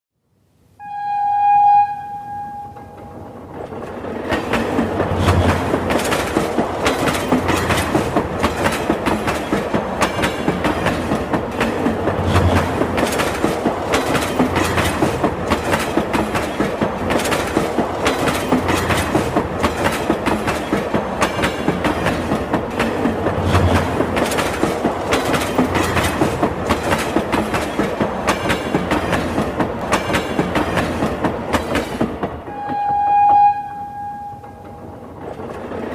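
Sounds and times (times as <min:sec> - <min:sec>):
train wheels clattering over rail joints: 0:02.8 - 0:33.0.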